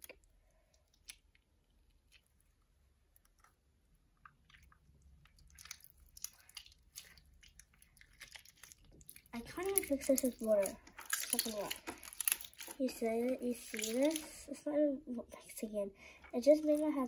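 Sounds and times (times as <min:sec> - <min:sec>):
slime clicking and crackling: 0:00.0 - 0:14.4.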